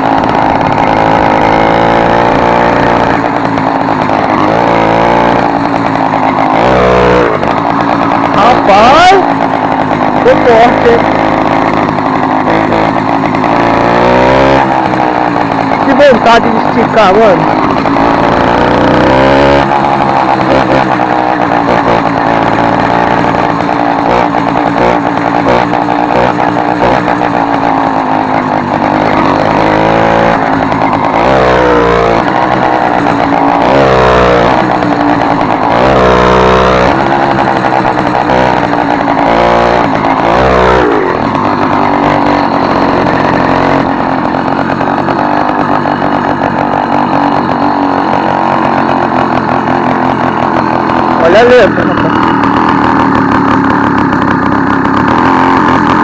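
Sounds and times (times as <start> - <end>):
small engine revving loudly: 0.0 - 56.0.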